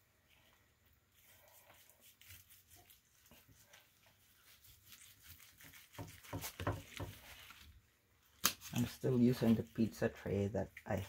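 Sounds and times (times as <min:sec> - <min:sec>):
gloved hands handling meat on a tray: 0:00.3 - 0:11.0.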